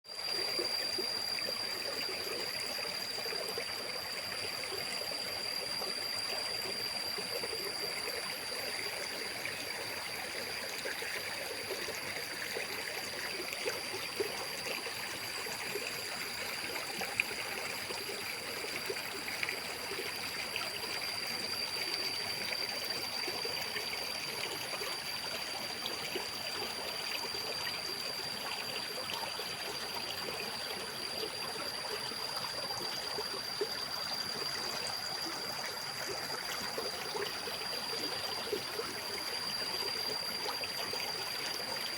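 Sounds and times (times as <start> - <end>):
mountain stream flowing: 0.2 - 41.9.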